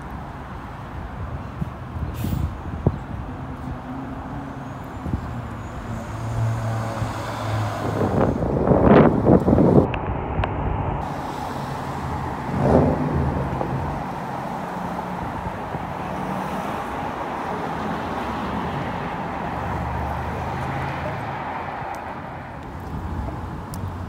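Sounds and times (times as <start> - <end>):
cars driving past: 0.0 - 24.0.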